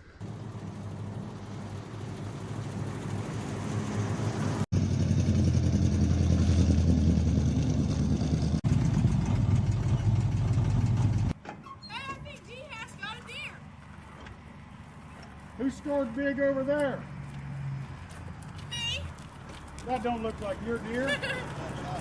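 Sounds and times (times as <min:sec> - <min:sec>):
vehicle engine humming: 0:00.0 - 0:11.4, 0:12.2 - 0:22.0.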